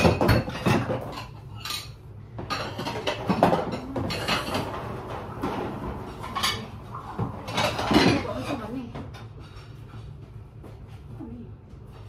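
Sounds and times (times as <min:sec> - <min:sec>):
ceramic plates clinking: 0:00.0 - 0:09.7.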